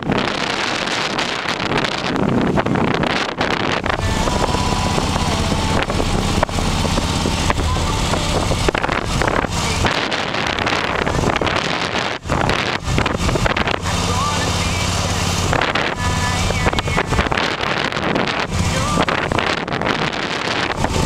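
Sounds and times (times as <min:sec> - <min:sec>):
motorcycle engine running: 0:00.0 - 0:21.0
wind over microphone: 0:00.0 - 0:21.0.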